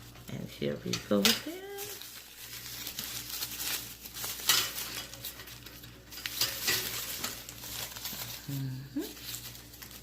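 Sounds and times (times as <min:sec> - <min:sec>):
rustling and light scraping: 0:01.0 - 0:10.0.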